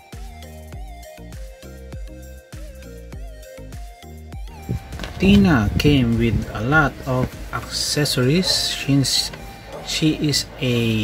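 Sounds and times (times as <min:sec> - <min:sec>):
background music with drum beat: 0:00.0 - 0:09.9.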